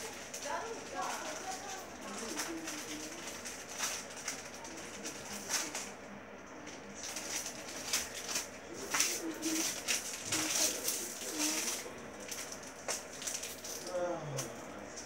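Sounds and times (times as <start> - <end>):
toys and packaging being handled: 0.0 - 5.9, 6.7 - 14.5.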